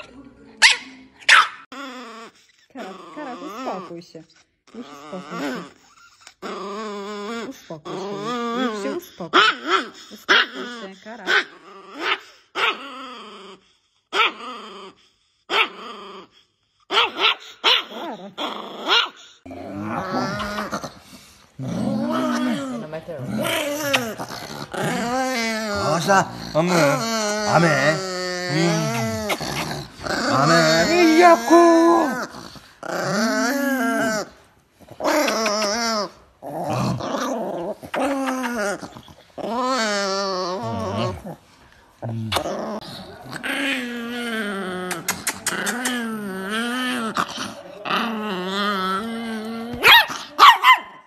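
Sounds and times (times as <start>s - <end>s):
small dog growling and barking: 0.0s - 51.0s.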